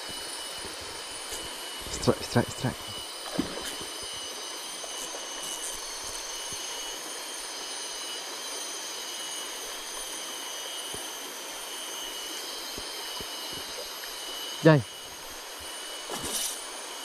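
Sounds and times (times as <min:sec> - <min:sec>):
flowing river water: 0:00.2 - 0:17.0.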